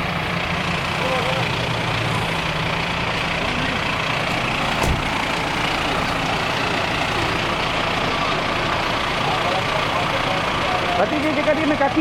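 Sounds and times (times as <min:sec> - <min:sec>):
engine idling: 0:00.0 - 0:12.0
traffic noise: 0:00.0 - 0:12.0.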